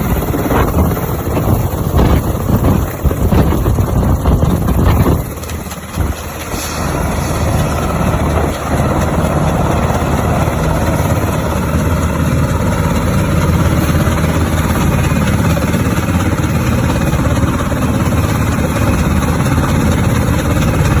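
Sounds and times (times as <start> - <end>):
helicopter engine and rotor noise: 0.0 - 21.0.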